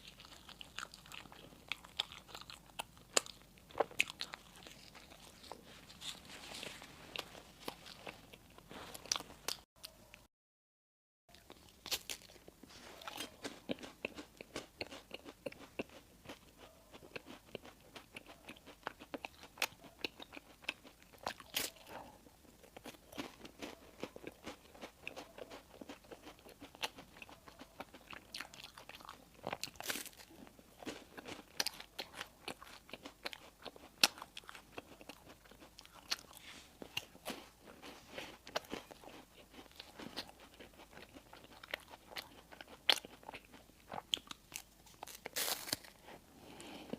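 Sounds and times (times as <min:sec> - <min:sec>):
crunchy food chewing: 0:00.0 - 0:10.2, 0:11.3 - 0:46.9.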